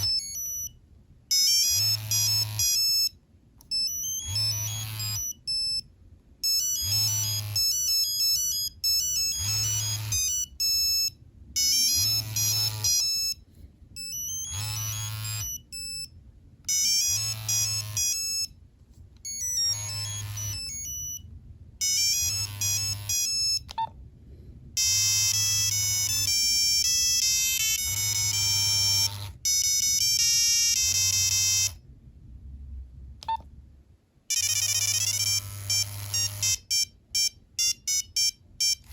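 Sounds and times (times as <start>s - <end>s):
monophonic phone ringtone: 0.0s - 13.4s, 14.0s - 16.1s, 16.7s - 18.6s, 19.2s - 21.2s, 21.8s - 23.8s, 24.8s - 31.8s, 34.3s - 38.9s.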